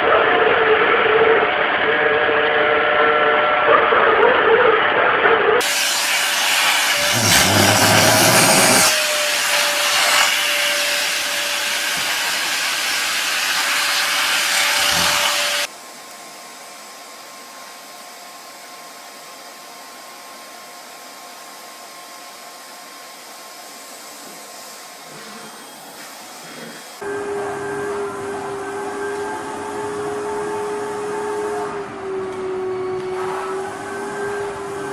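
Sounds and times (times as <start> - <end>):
vacuum cleaner running: 5.6 - 34.9.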